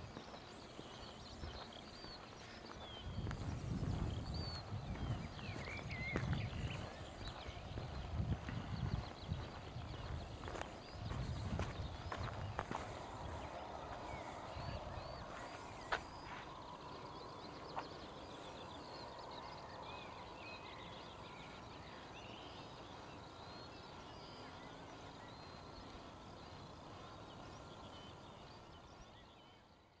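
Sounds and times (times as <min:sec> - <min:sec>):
birds chirping and singing: 0:00.0 - 0:29.8.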